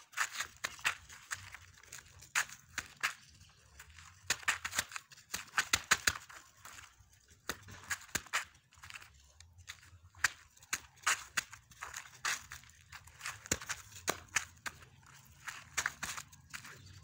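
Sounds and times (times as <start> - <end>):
footsteps on sandy ground: 0.0 - 17.0.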